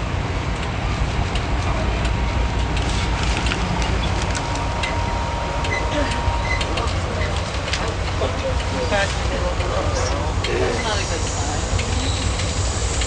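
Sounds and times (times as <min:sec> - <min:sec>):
train clicks and rattles: 0:00.0 - 0:13.0
train rumbling: 0:00.0 - 0:13.0.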